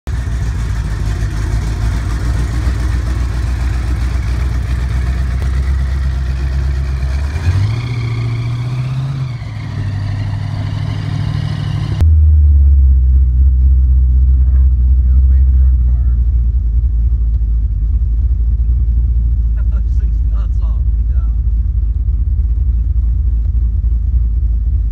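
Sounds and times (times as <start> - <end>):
supercharged engine idling: 0.1 - 24.9.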